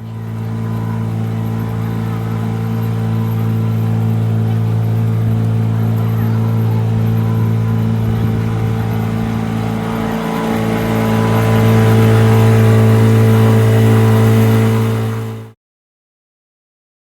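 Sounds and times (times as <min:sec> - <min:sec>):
boat motor humming: 0:00.0 - 0:15.6.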